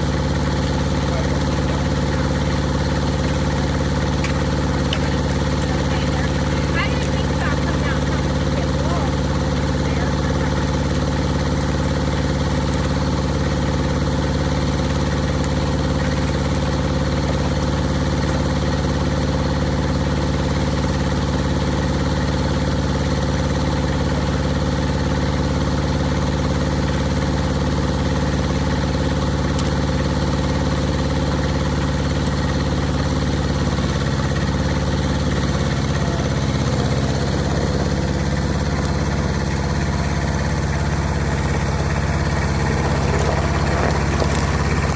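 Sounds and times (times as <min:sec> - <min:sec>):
engine running steadily: 0:00.0 - 0:44.9.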